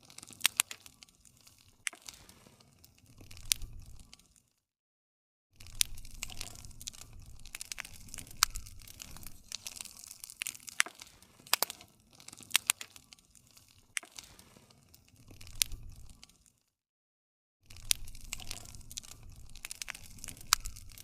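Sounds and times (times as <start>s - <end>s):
wood fire crackling: 0.0s - 4.6s, 5.6s - 16.7s, 17.7s - 21.0s.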